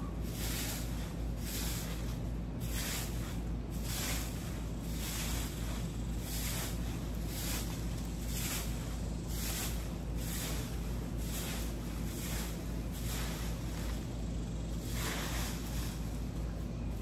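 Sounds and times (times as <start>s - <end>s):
broom sweeping dirt: 0.0s - 17.0s
low steady rumble: 0.0s - 17.0s.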